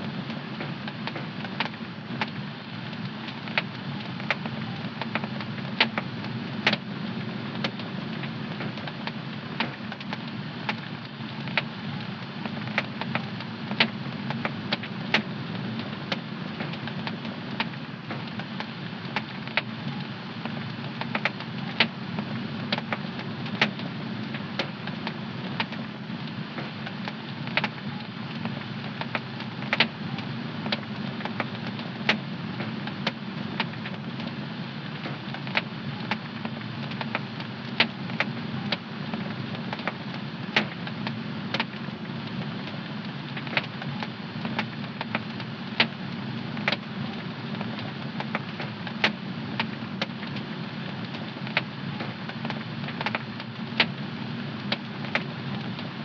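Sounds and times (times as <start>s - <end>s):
fire popping and snapping: 0.0s - 56.0s.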